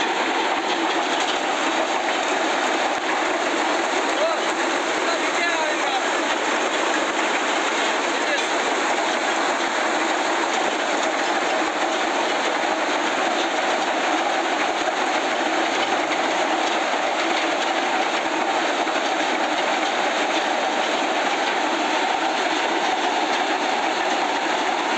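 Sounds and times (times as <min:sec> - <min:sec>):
drilling rig engine running: 0:00.0 - 0:24.9.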